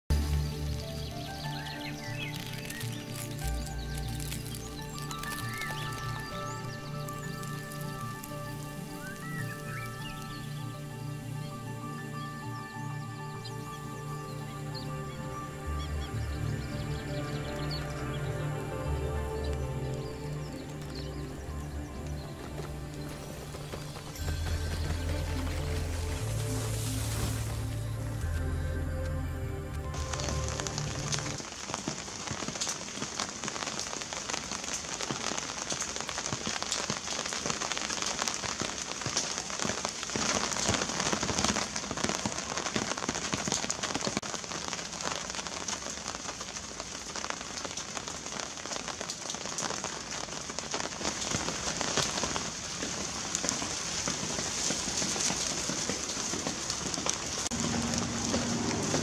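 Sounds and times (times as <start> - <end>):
heavy rain on plants: 0.0 - 59.0
raindrops ticking close by: 0.1 - 59.0.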